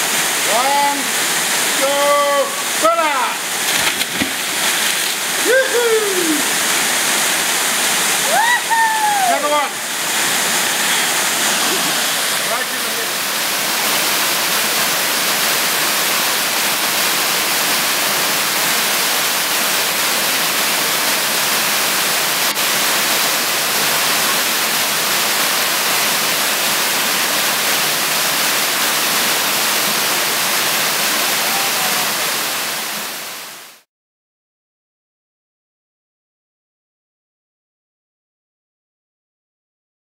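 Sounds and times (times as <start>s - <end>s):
waterfall rushing: 0.0s - 33.8s.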